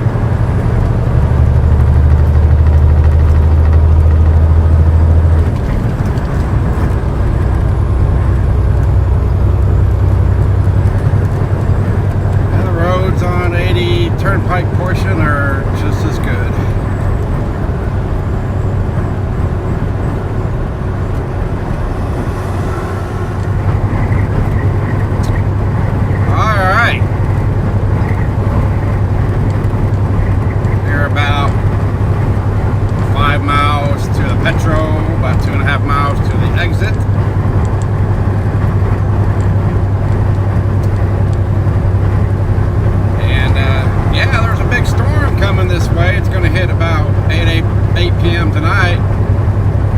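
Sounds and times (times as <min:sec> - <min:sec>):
diesel engine drone: 0:00.0 - 0:49.9
road and tyre noise: 0:00.0 - 0:49.9.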